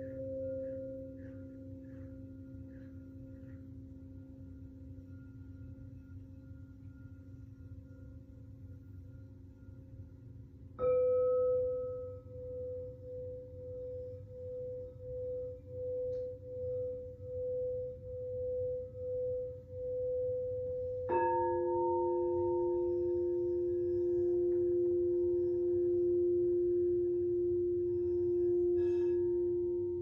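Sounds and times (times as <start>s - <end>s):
lower-pitched singing bowl struck: 0.0s - 10.1s, 10.8s - 30.0s
singing bowl ringing: 0.0s - 30.0s.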